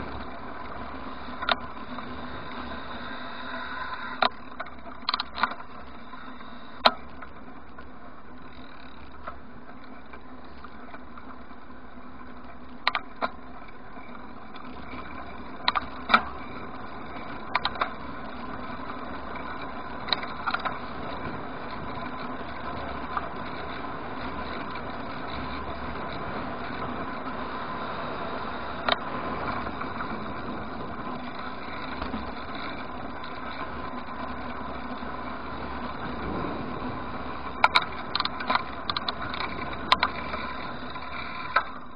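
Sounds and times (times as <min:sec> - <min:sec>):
bike clicks and knocks: 0:00.0 - 0:41.9
tyres on road and wind: 0:00.0 - 0:41.9.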